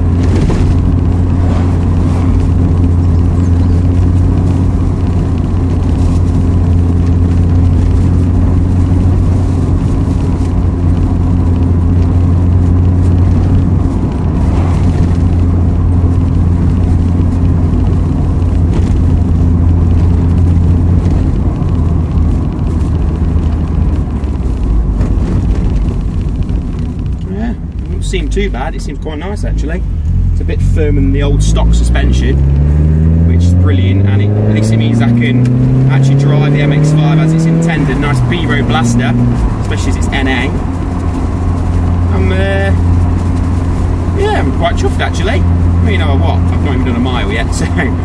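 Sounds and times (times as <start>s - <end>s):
car engine cruising: 0.0s - 48.0s
road noise: 0.0s - 48.0s.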